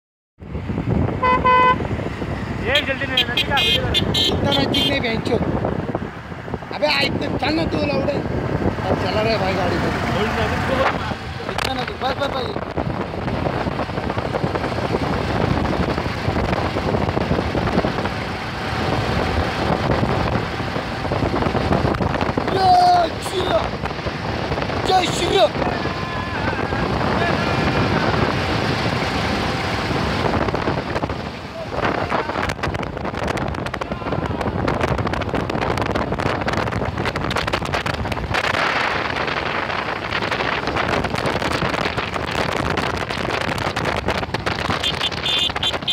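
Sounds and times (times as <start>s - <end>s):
motorcycle engines running: 0.4s - 45.9s
wind buffeting microphone: 0.4s - 45.9s.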